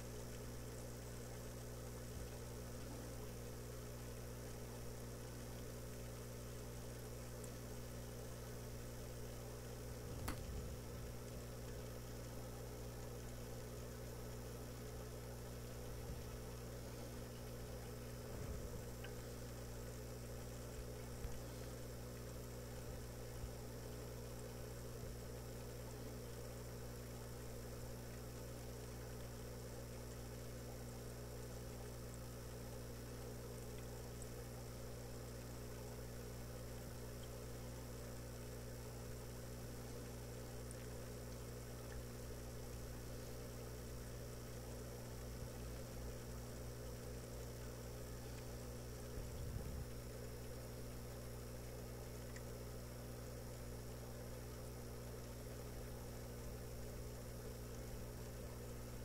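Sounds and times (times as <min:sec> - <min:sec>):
low hum: 0:00.0 - 0:26.5, 0:33.0 - 0:59.0
faint ticks: 0:00.0 - 0:59.0.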